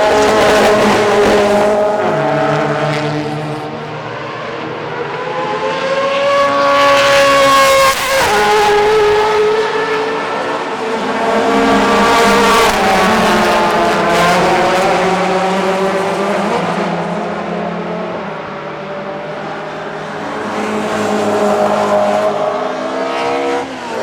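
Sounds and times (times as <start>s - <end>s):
racing car engine accelerating: 0.0s - 24.0s
racing car engines: 0.0s - 24.0s.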